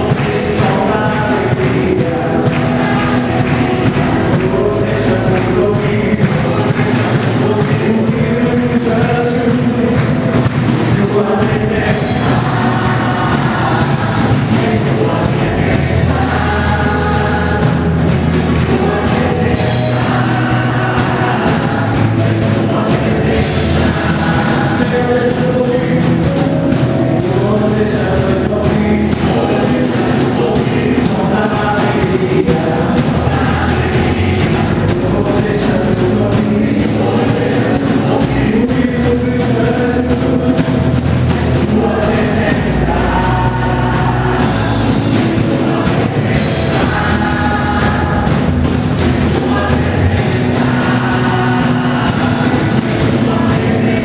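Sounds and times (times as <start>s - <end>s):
full band playing: 0.0s - 54.0s
group of voices singing: 0.0s - 54.0s.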